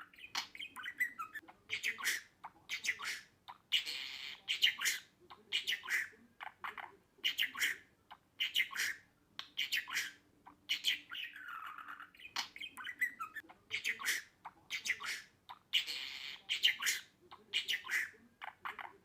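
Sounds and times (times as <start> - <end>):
budgerigars chirping and squawking: 0.0 - 19.0.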